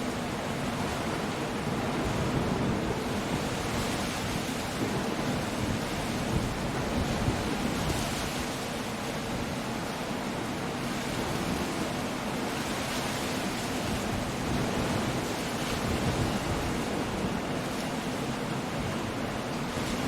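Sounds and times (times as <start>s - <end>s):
rain: 0.0s - 20.0s
rushing surf: 0.0s - 20.0s
wind: 0.0s - 20.0s.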